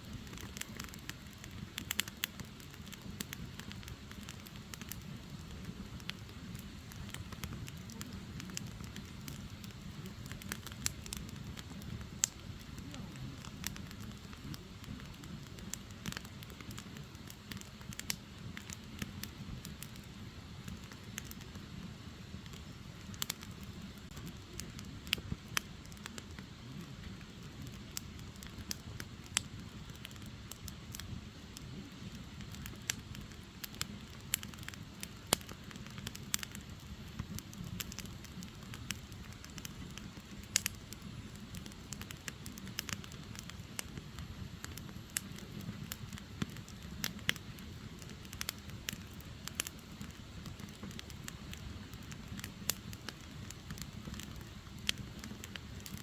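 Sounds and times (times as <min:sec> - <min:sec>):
firewood crackling and popping: 0:00.0 - 0:56.0
low rush of flames: 0:00.0 - 0:56.0.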